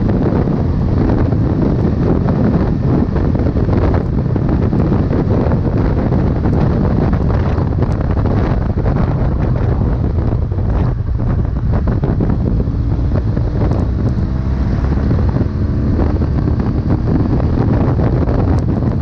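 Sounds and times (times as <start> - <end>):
low vehicle rumble: 0.0 - 19.0
wind buffeting microphone: 0.0 - 19.0.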